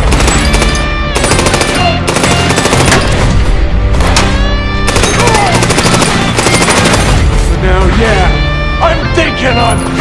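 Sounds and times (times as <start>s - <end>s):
loud music: 0.0s - 10.0s.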